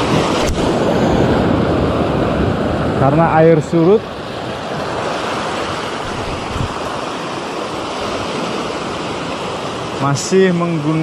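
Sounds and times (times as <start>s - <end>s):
small waves in shallows: 0.0s - 11.0s.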